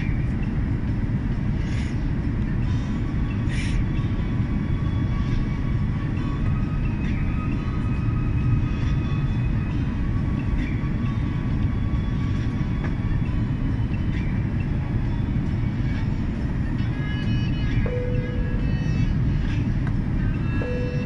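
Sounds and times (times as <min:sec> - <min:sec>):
jet engine cabin hum: 0:00.0 - 0:21.0.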